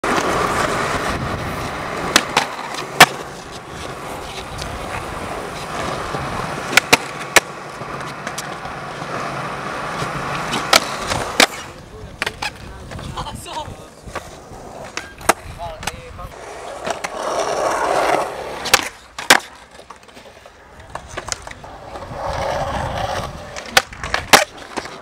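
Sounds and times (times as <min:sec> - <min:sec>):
skateboard clacking on ground: 0:00.0 - 0:25.0
skateboard wheels rolling on concrete: 0:00.0 - 0:25.0.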